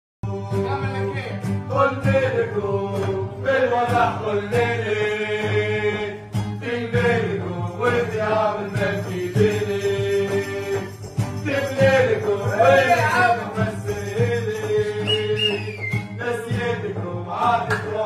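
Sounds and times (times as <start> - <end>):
crowd singing a chant: 1.6 - 18.0.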